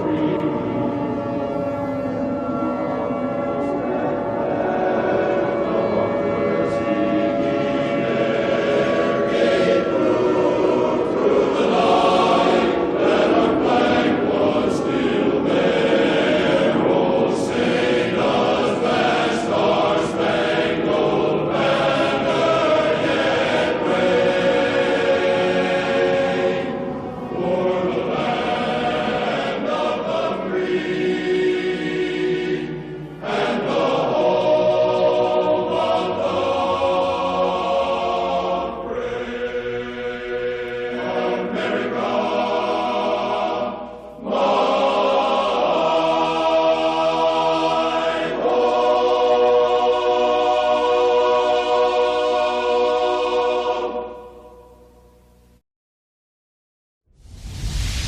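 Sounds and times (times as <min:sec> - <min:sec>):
choir singing: 0:00.0 - 0:55.1
musical accompaniment: 0:00.0 - 0:55.1.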